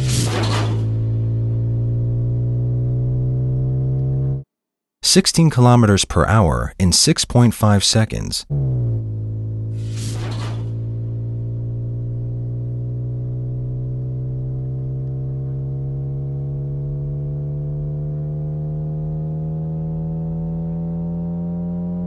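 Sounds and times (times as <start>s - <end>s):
synthesized engine hum: 0.0s - 4.5s, 7.6s - 22.0s.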